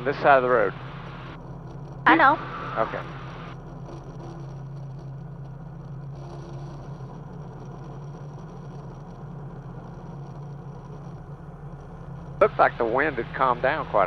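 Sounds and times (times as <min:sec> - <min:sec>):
light aircraft engine droning: 0:00.0 - 0:14.0.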